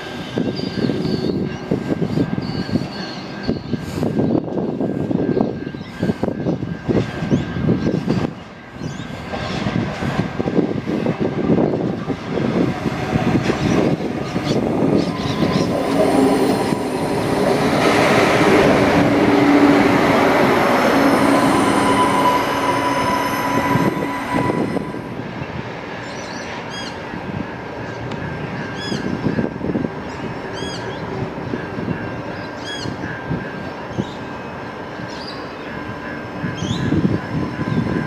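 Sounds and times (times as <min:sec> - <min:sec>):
diesel railcar engine: 0:00.0 - 0:38.0.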